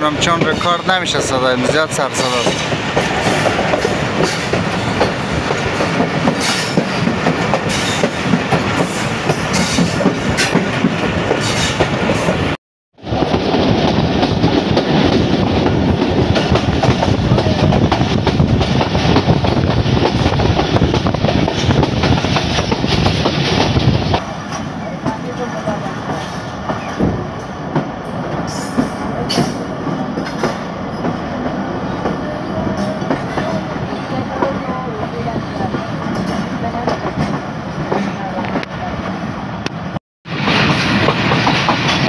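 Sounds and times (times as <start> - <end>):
train wheels clickety-clack on rails: 0.0 - 42.0.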